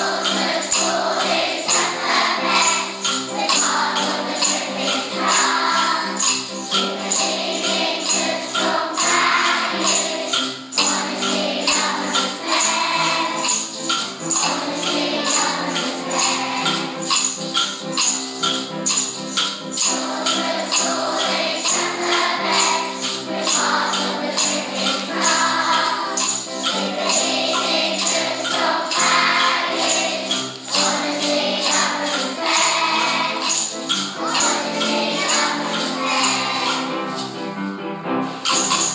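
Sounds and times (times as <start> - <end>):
singing voices: 0.0 - 13.7, 14.5 - 17.1, 19.9 - 37.2
upbeat music with percussion: 0.0 - 38.9.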